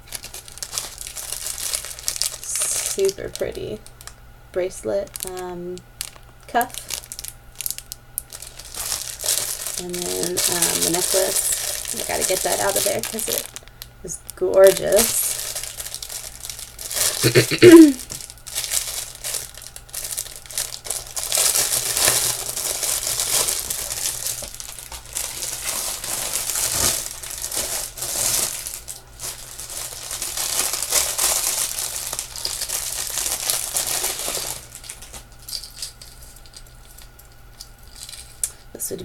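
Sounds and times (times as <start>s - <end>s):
plastic packaging crinkling: 0.0s - 4.2s, 5.0s - 38.7s.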